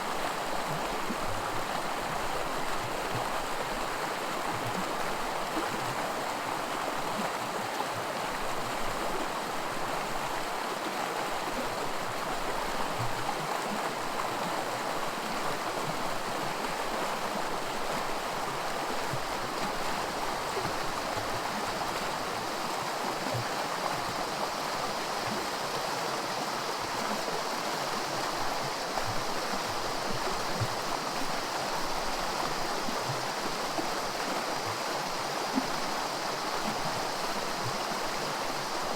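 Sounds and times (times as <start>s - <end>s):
creek rushing over rocks: 0.0s - 38.9s.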